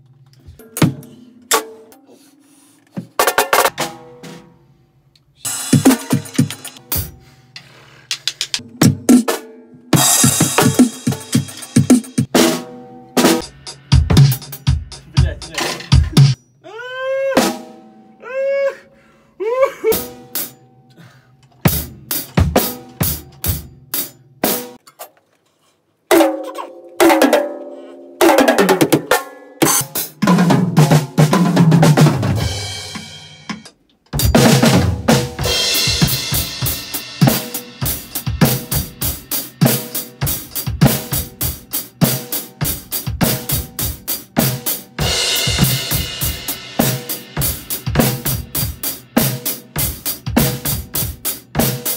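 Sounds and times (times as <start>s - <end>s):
drum kit playing: 0.5s - 2.3s, 3.0s - 4.7s, 5.4s - 7.5s, 8.1s - 16.4s, 17.4s - 18.0s, 19.9s - 20.6s, 21.5s - 24.8s, 26.1s - 51.9s.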